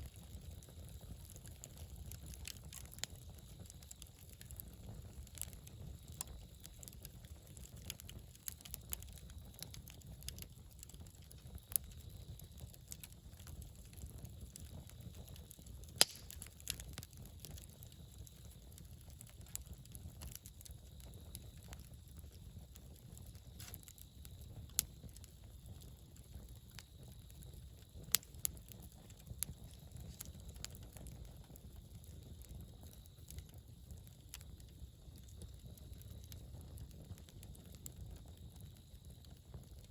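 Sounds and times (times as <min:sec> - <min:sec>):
campfire crackling and popping: 0:00.0 - 0:39.9
low steady fire rumble: 0:00.0 - 0:39.9.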